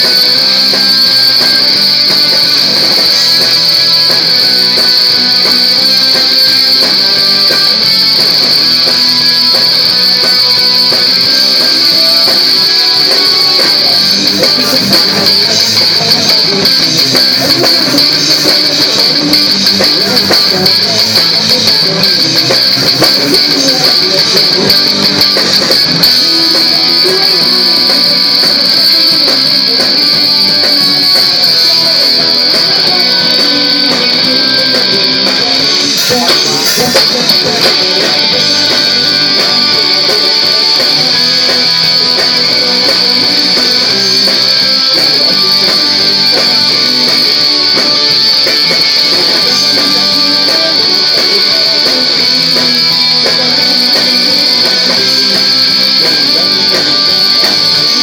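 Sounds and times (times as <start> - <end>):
live band playing: 0.0 - 58.0
strummed guitar: 0.0 - 58.0.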